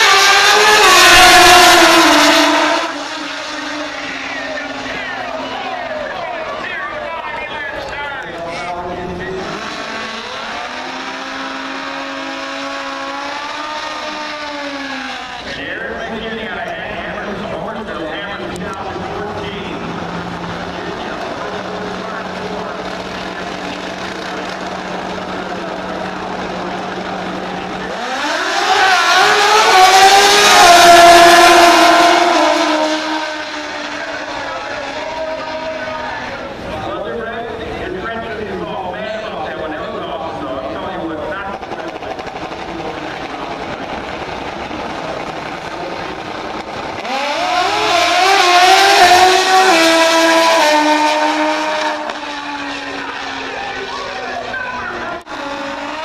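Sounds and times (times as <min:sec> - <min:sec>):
drag racing motorcycle engine revving: 0:00.0 - 0:56.0.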